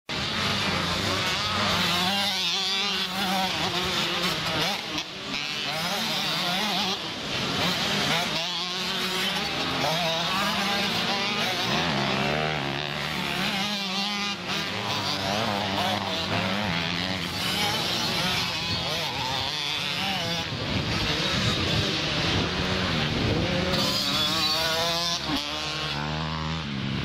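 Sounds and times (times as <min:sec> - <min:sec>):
motocross bike engines revving: 0:00.1 - 0:27.0.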